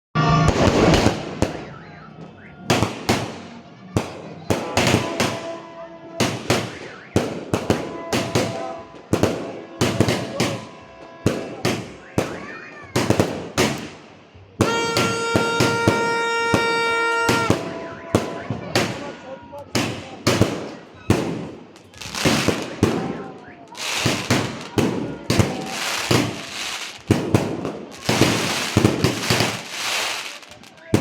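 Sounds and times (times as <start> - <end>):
fireworks bangs: 0.2 - 31.0.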